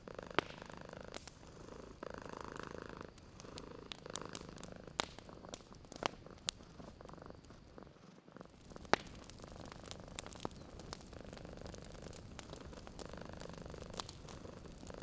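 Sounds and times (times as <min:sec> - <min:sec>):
cat purring: 0:00.0 - 0:15.0
wood fire crackling and popping: 0:00.0 - 0:15.0.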